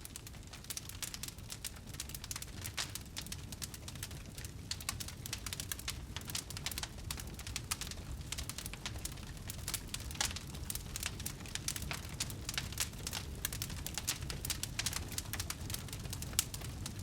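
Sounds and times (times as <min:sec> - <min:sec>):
fire snapping and popping: 0:00.0 - 0:17.0
flames rumbling: 0:00.0 - 0:17.0.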